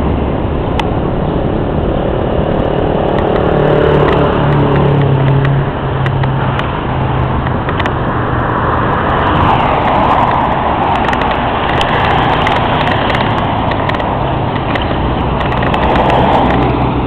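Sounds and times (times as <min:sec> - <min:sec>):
car passing: 0:00.0 - 0:17.0
engine hum: 0:00.0 - 0:17.0
road noise: 0:00.0 - 0:17.0.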